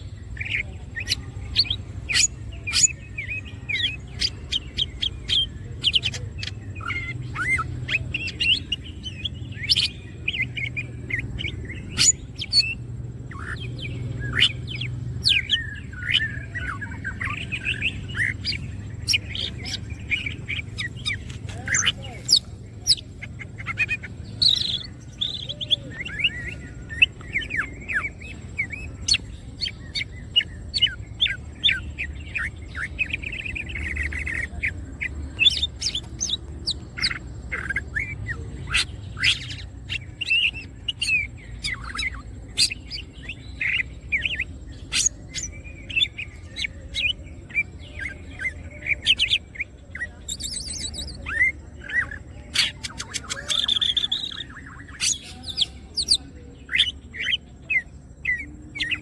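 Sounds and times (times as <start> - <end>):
bird singing chirps and whistles: 0.0 - 59.0.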